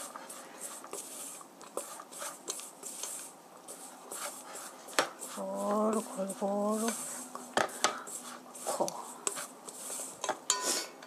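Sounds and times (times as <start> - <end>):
wooden utensil scraping bowl: 0.0 - 10.9.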